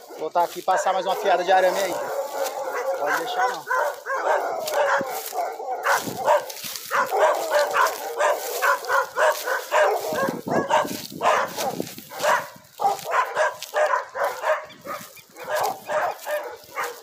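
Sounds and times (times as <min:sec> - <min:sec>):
dog barking: 0:00.0 - 0:17.0.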